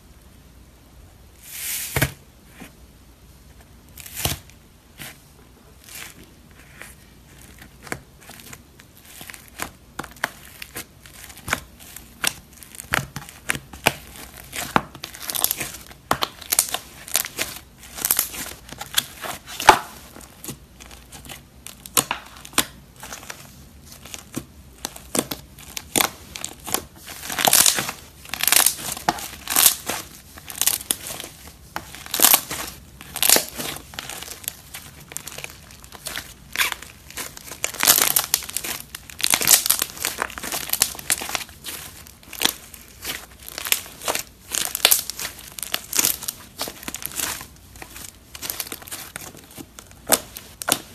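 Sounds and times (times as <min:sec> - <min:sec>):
slime crust crackling: 0:05.8 - 0:50.9.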